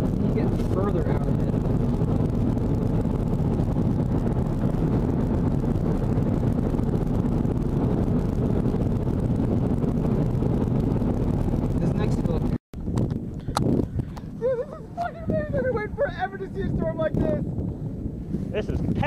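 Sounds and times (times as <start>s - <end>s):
road and wind noise in car: 0.0s - 19.0s.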